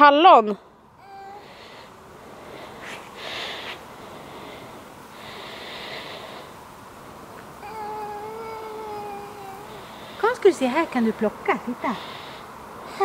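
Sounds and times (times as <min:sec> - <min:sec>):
soft hissy rustles: 0:00.0 - 0:13.0.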